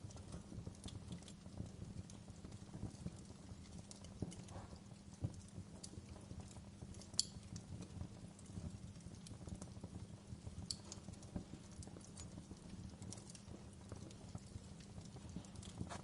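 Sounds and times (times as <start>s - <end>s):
burning wood crackling and popping: 0.0s - 16.0s
low fire rumble: 0.0s - 16.0s.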